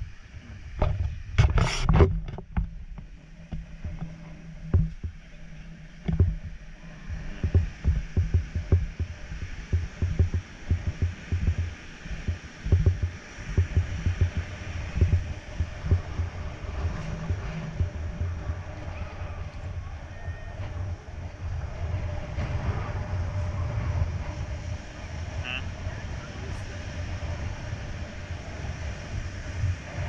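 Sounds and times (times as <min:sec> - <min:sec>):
wind buffeting microphone: 0:00.0 - 0:30.0
surf breaking on beach: 0:04.7 - 0:30.0.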